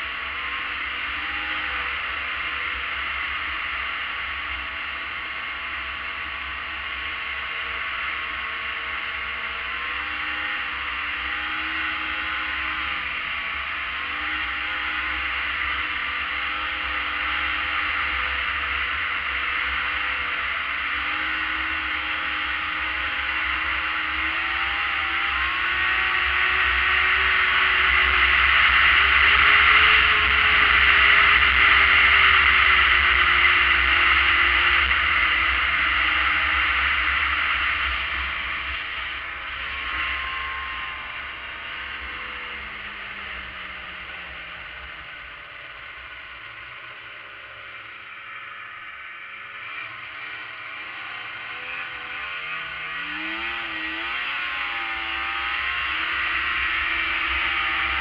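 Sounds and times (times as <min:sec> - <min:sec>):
snowmobile engine running: 0:00.0 - 0:48.4, 0:49.2 - 0:58.0.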